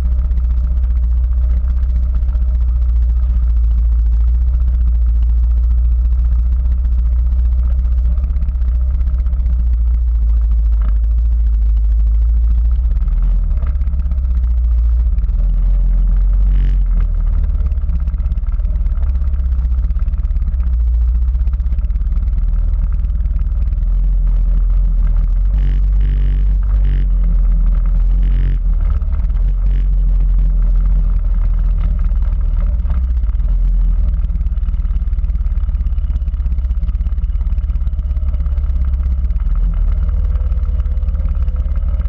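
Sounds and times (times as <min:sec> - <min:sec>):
quad bike engine rumbling: 0:00.0 - 0:42.0.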